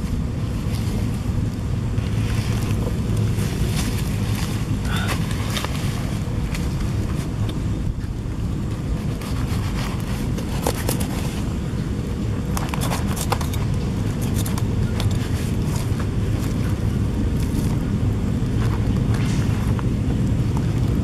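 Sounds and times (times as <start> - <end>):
hands crackling grilled fish: 0.0 - 21.0
wind on microphone: 0.0 - 21.0.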